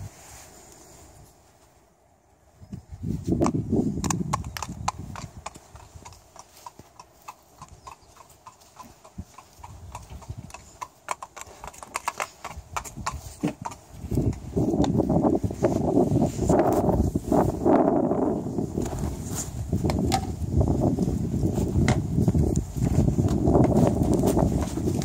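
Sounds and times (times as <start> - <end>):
horse hooves on asphalt: 3.0 - 17.6, 18.3 - 25.0.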